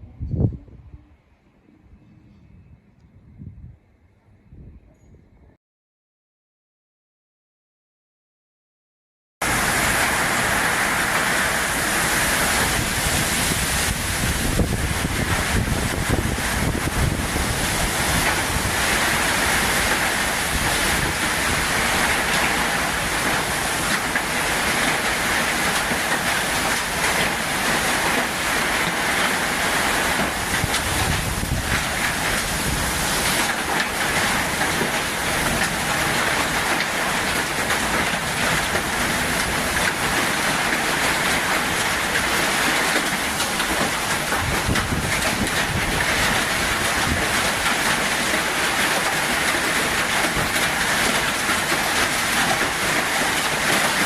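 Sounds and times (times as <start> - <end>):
wind: 0.0 - 5.6, 9.4 - 54.0
heavy storm rain: 9.4 - 54.0.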